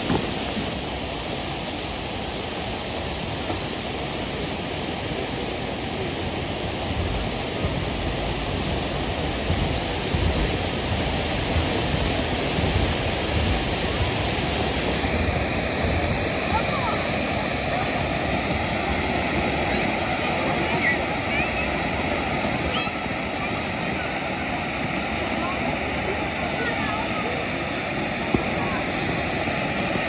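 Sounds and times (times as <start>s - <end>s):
firework rushing hiss: 0.0s - 30.0s.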